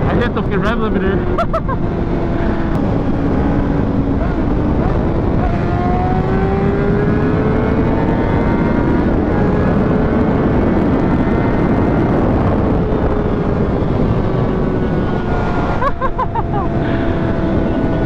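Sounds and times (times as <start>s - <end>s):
motorcycle engine cruising: 0.0s - 18.0s
wind and road rush: 0.0s - 18.0s.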